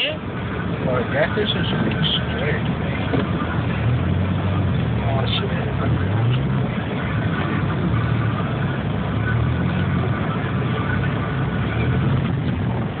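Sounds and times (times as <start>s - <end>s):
car cabin noise: 0.0s - 13.0s
car engine hum: 0.0s - 13.0s.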